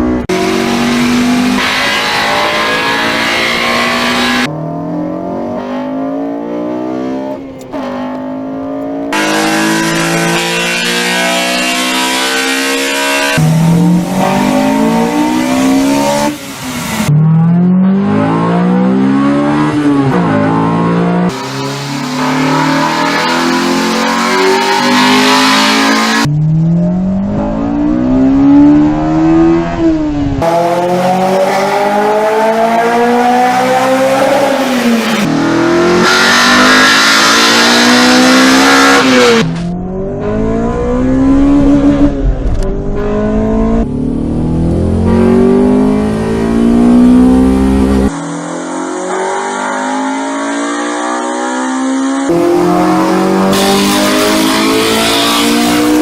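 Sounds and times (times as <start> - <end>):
high-revving engine accelerating: 0.0 - 56.0.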